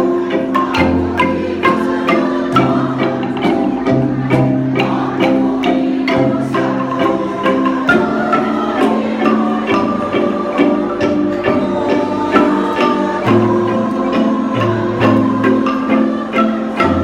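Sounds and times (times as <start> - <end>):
wooden xylophone ensemble playing: 0.0 - 17.0.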